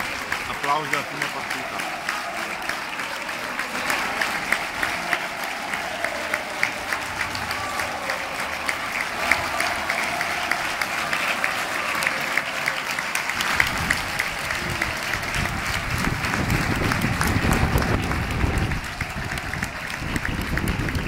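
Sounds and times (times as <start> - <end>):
crowd applauding: 0.0 - 21.0.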